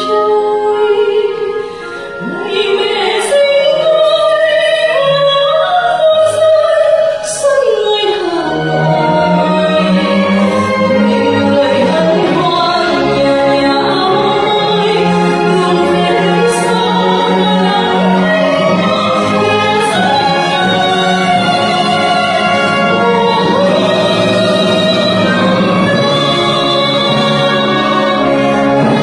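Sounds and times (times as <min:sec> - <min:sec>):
orchestra with sustained strings: 0:00.0 - 0:29.0
soprano singing: 0:00.0 - 0:29.0.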